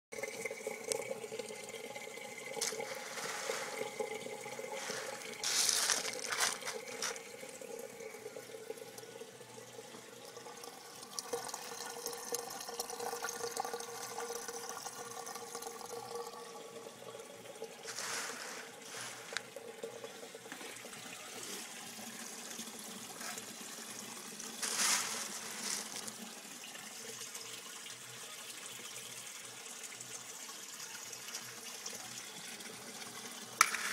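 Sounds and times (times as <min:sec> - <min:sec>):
water gushing: 0:00.1 - 0:33.9
water trickling from a hose: 0:00.1 - 0:33.9.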